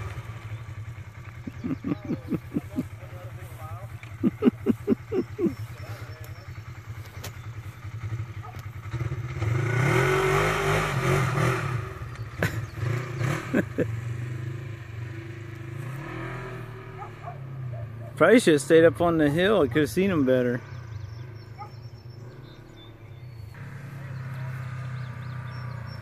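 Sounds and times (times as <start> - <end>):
distant off-road vehicle engine revving: 0.0 - 26.0.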